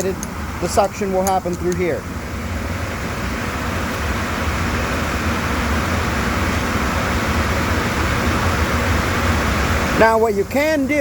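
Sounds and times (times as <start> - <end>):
shop machinery drone: 0.0 - 10.8.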